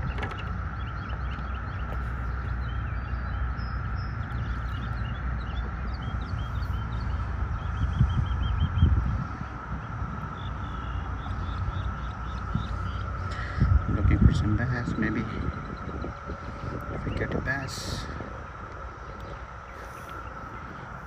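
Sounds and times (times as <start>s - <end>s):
constant hum: 0.0s - 21.0s
small birds chirping and singing: 0.0s - 21.0s
steady low rumble: 0.0s - 21.0s.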